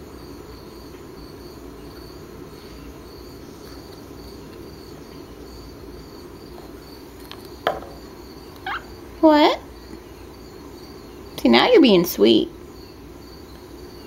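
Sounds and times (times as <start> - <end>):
high insect-like chirps: 0.0 - 14.0
low room hum: 0.0 - 14.0.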